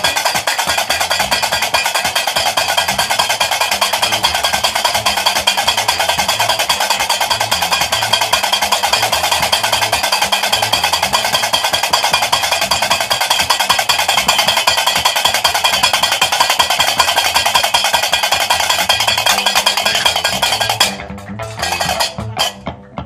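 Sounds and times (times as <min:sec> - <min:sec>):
metal castanets clacking: 0:00.0 - 0:22.6
plucked bass lute: 0:00.7 - 0:23.0.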